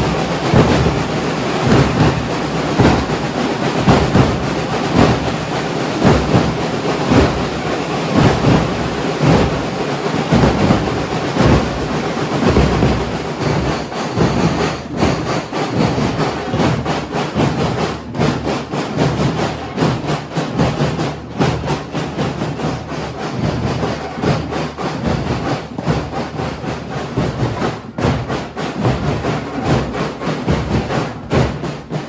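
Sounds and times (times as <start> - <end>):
drum hits: 0.0 - 32.0.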